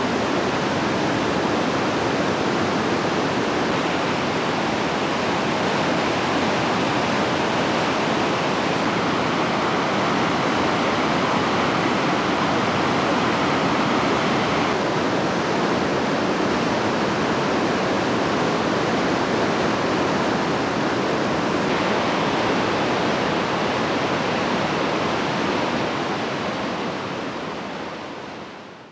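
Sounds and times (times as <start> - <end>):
water rushing over rapids: 0.0 - 28.9.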